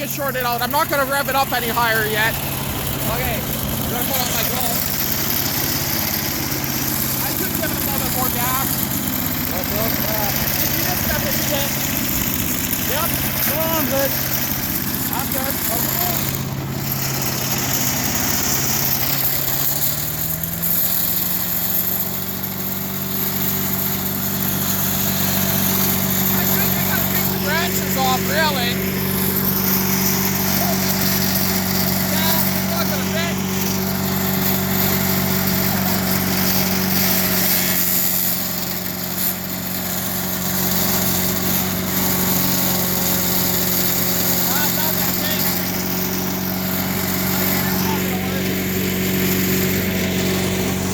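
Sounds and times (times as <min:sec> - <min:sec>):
wood chipper engine running: 0:00.0 - 0:50.9.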